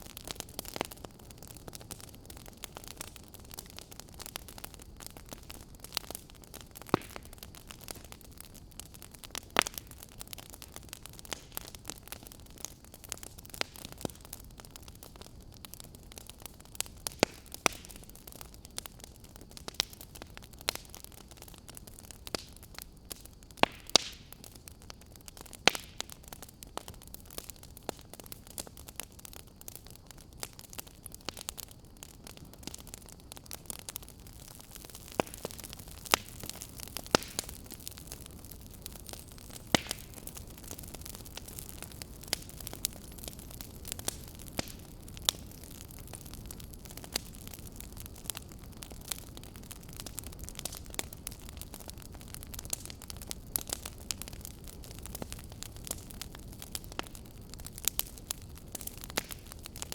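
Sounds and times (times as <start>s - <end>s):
low hiss of burning: 0.0s - 59.9s
wood fire crackling and popping: 0.0s - 59.9s.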